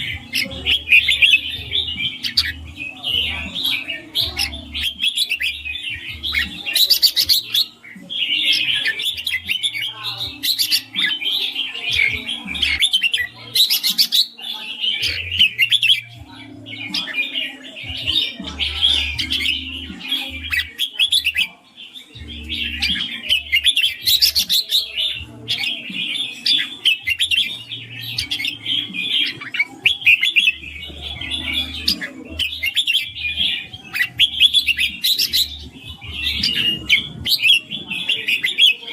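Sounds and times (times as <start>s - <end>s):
bulbul singing and chirping: 0.0s - 38.9s.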